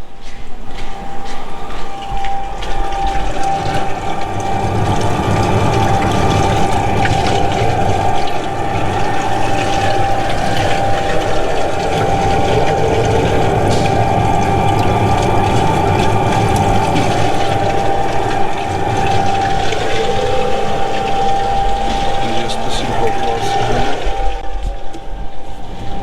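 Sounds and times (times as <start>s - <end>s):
electric pump whining: 0.0s - 26.0s
liquid rushing through lines: 0.0s - 26.0s.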